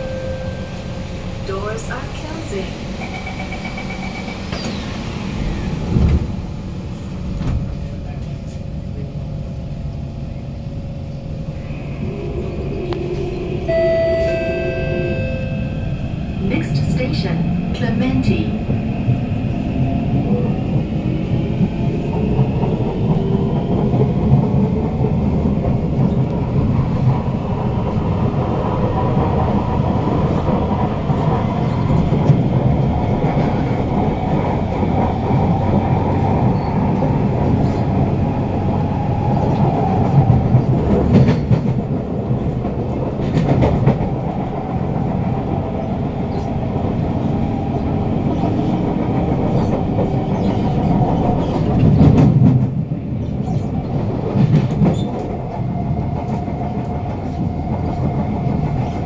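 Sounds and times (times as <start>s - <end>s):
wheels rumbling on rails: 0.0s - 59.0s.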